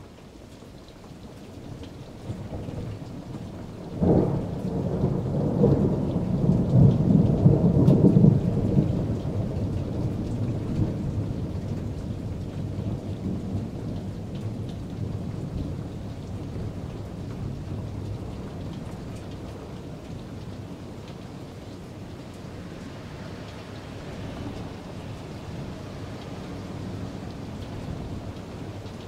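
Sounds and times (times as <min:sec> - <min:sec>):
steady rain: 0:00.0 - 0:29.0
rolling thunder: 0:04.0 - 0:22.5, 0:23.2 - 0:29.0.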